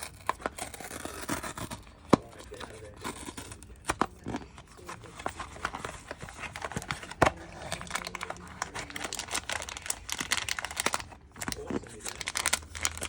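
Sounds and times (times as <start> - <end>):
plastic and paper crinkling: 0.0 - 13.0.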